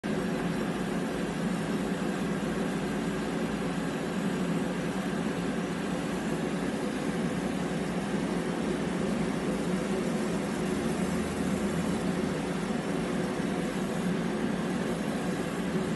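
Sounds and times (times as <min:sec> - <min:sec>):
laser engraver mechanical hum: 0:00.0 - 0:15.9.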